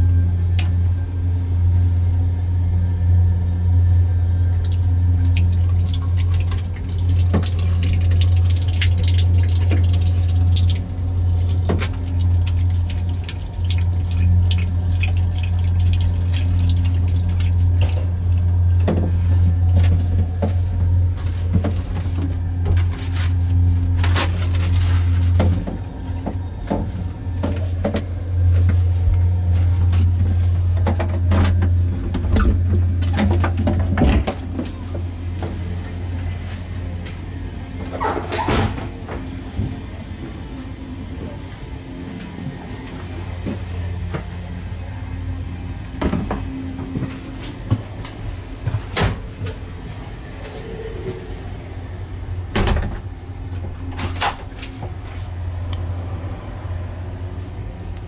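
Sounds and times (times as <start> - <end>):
deep train rumble: 0.0 - 58.0.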